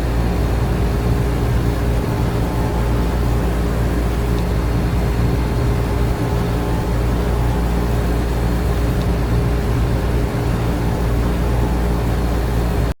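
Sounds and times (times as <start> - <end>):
air conditioner and fans humming: 0.0 - 13.0.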